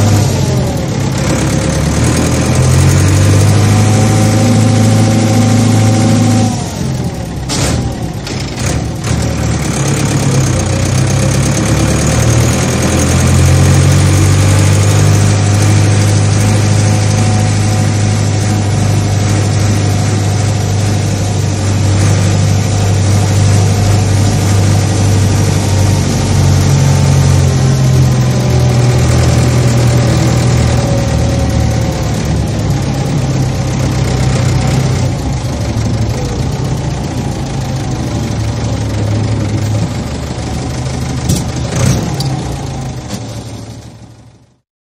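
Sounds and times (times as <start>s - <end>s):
large engine droning: 0.0s - 44.6s.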